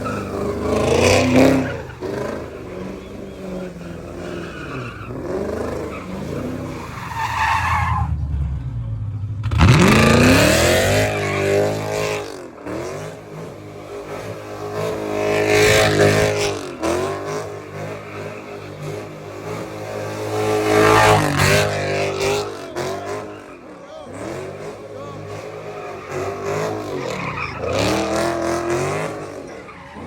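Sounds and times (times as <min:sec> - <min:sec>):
tires squealing: 0:00.0 - 0:08.7, 0:09.5 - 0:30.0
car engine revving: 0:00.0 - 0:30.0.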